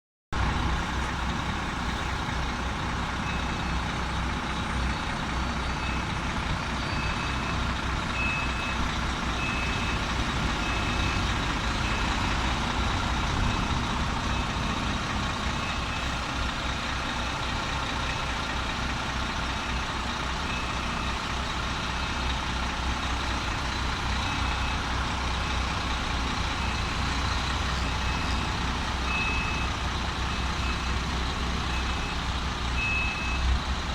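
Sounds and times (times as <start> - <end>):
diesel engine running: 0.3 - 33.9
reversing alarm beeping: 1.4 - 33.6.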